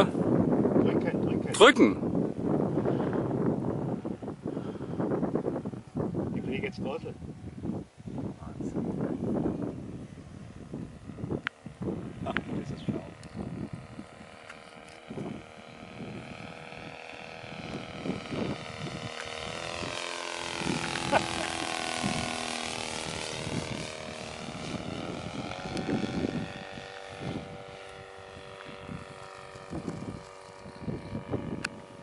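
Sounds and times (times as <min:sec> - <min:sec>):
model aircraft engine flying past: 0:00.0 - 0:32.0
wind on microphone: 0:00.0 - 0:32.0.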